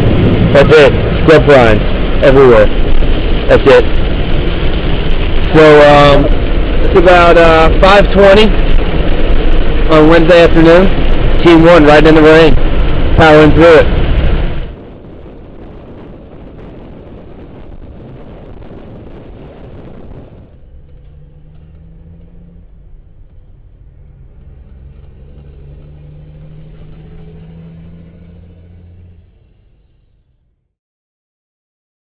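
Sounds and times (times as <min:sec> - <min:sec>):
engine hum inside vehicle cabin: 0:00.0 - 0:30.4
road noise rumble: 0:00.0 - 0:30.6.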